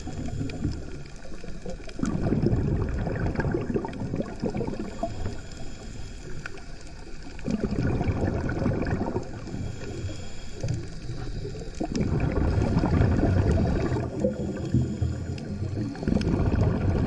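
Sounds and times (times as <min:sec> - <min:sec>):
underwater bubbles gurgling: 0:00.0 - 0:17.0.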